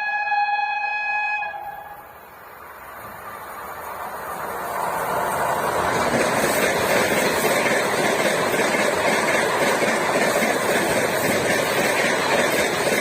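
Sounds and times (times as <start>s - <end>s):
train wheels rushing on rail: 0.9s - 13.0s.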